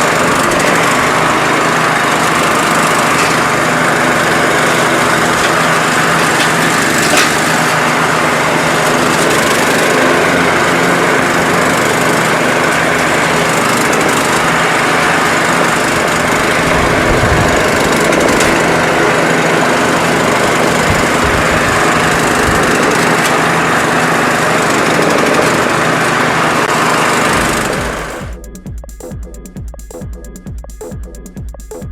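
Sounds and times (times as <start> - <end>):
lawn tractor engine running: 0.0 - 31.9.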